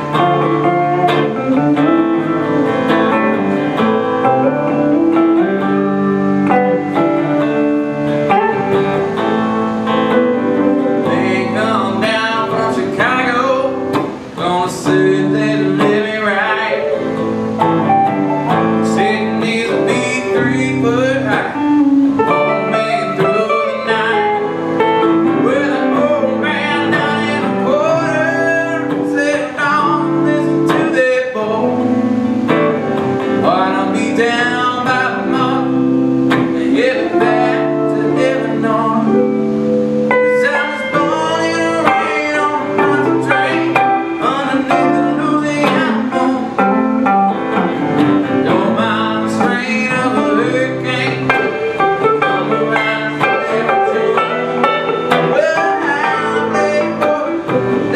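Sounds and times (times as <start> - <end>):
electric guitars playing: 0.0 - 57.9.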